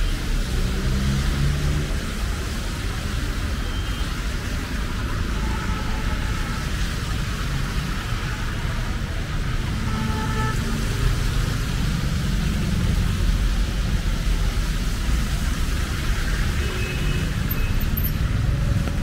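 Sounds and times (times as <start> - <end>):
vehicle engines and tyres rumbling: 0.0 - 19.0.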